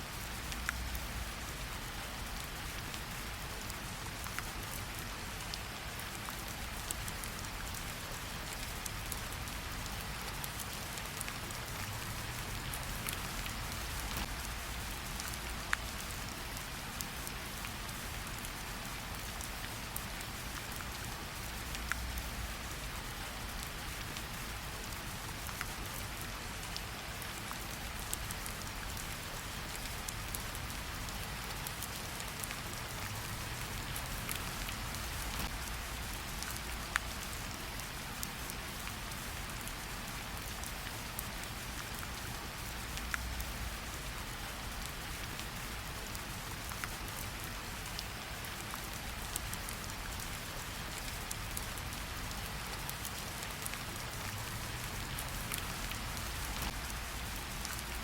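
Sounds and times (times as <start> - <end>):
gentle rain on leaves: 0.0 - 58.0.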